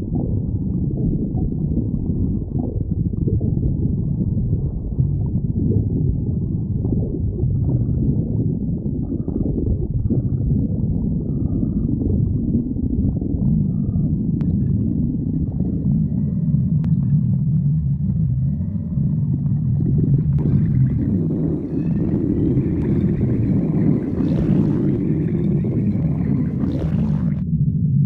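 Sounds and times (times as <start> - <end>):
stomach growling: 0.0 - 27.5.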